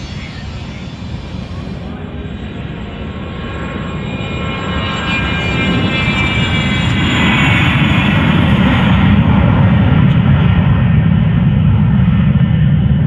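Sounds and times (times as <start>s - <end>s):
jet engines whining and rumbling: 0.0s - 13.0s.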